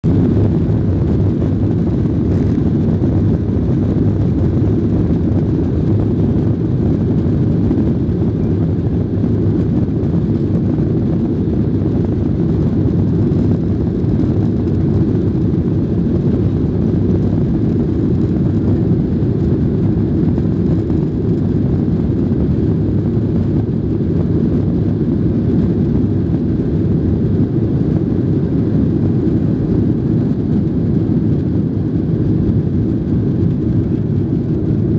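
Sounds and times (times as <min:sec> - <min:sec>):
jet engines rumbling in cabin: 0:00.0 - 0:34.9.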